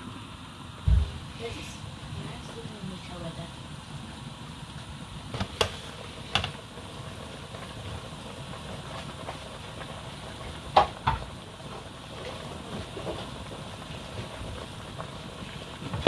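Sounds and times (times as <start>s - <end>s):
pot boiling: 0.0s - 16.0s.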